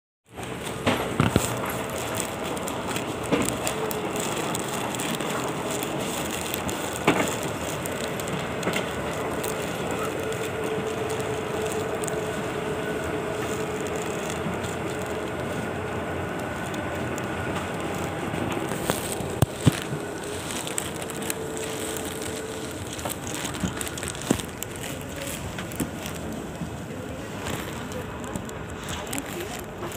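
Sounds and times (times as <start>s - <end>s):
wheeled suitcases rolling: 0.3s - 29.9s
shuffling footsteps: 0.4s - 29.9s.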